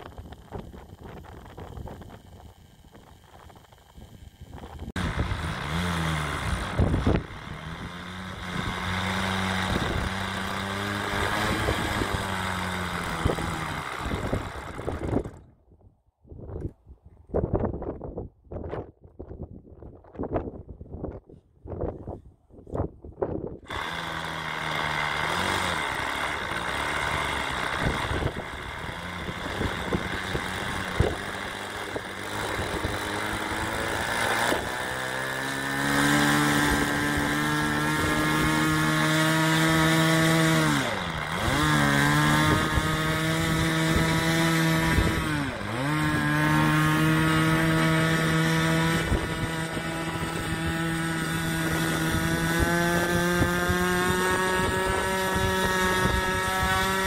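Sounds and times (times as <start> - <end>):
model airplane engine running: 0.0 - 15.5, 23.6 - 57.0
electric starter spinning: 0.0 - 15.6, 23.6 - 57.0.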